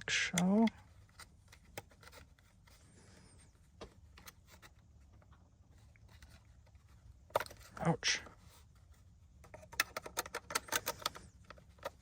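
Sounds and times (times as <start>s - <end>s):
low steady hum: 0.0s - 12.0s
plastic parts clicking and rubbing: 0.0s - 12.0s.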